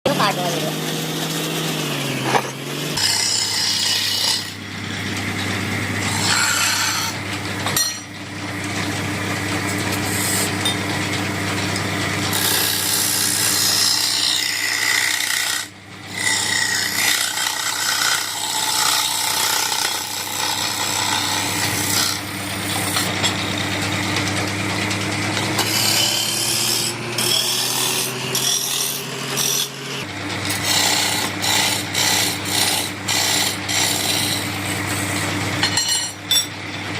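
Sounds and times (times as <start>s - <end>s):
tool scraping spinning wood: 0.1s - 36.9s
wood lathe motor running: 0.1s - 36.9s.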